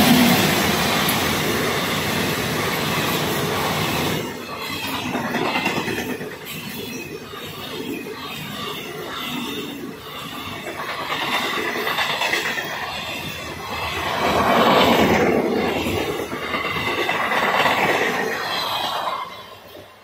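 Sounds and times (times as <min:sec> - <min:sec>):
train wheels clattering on rails: 0:00.0 - 0:20.0.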